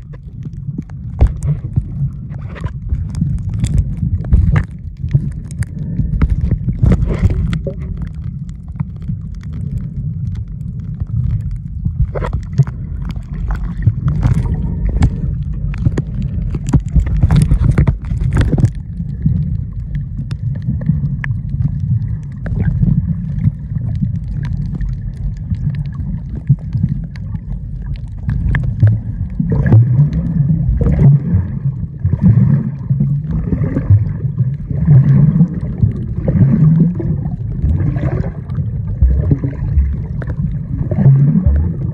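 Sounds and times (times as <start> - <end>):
muffled underwater rumble: 0.0 - 41.9
soft pulsing water rush: 0.0 - 41.9.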